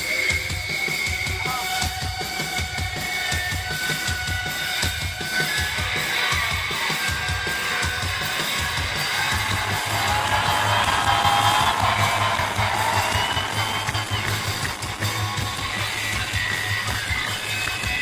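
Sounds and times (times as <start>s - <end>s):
drum kit beat: 0.0s - 18.0s
electric guitar: 0.0s - 18.0s.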